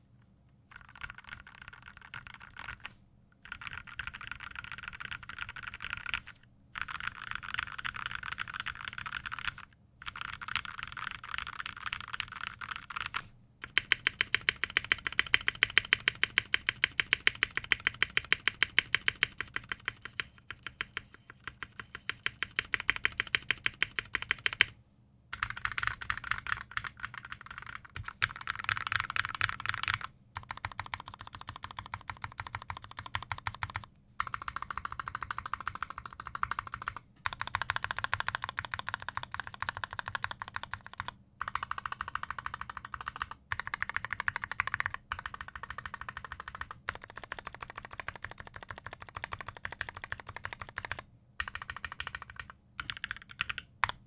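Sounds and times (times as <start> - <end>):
typing on mechanical keyboard: 0.7 - 54.0.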